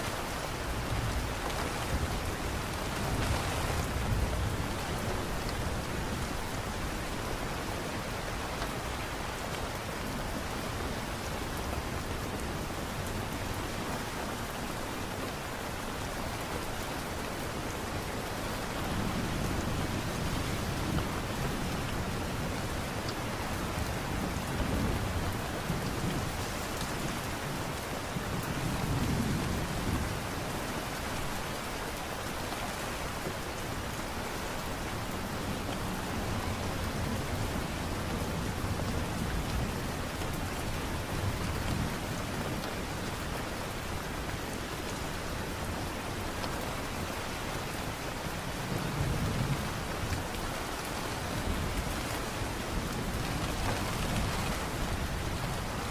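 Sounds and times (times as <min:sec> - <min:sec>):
light rain falling: 0:00.0 - 0:55.9.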